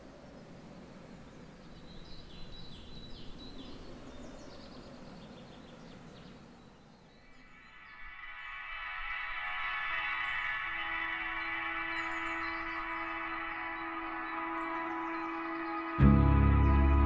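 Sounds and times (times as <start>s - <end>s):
soft ambient music: 0.0s - 17.0s
songbird chirping: 0.0s - 17.0s.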